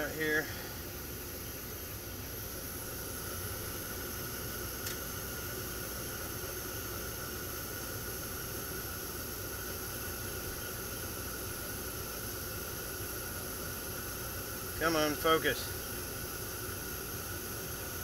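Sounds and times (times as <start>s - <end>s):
faint steady whine: 0.0s - 18.0s
heating unit fan rushing: 0.0s - 18.0s.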